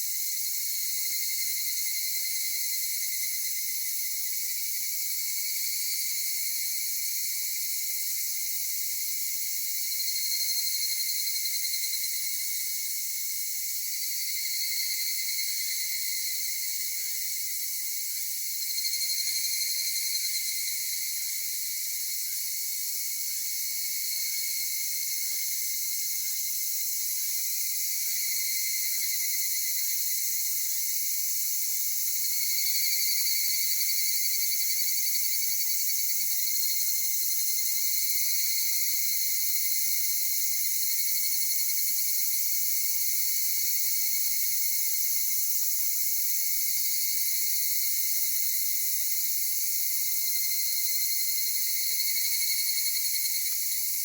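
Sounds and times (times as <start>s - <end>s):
chorus of singing insects: 0.0s - 54.0s.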